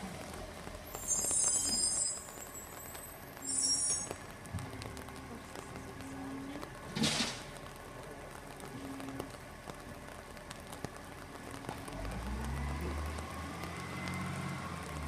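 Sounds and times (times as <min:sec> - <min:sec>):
distant diesel truck engine rumble: 0:00.0 - 0:15.0
light rain patter and drips: 0:00.0 - 0:15.0.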